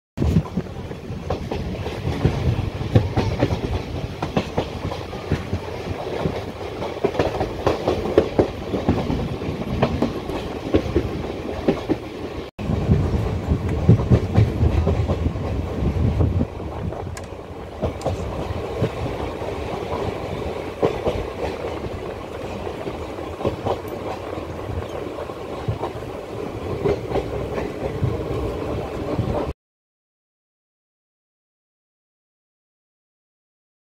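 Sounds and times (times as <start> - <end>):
train coach rumble: 0.2 - 29.5.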